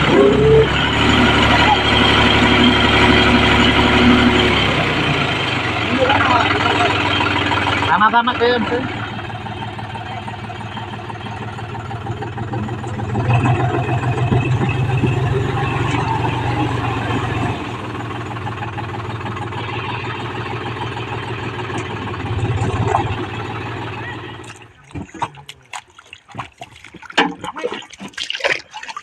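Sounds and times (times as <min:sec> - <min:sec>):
tractor engine running: 0:00.0 - 0:27.4.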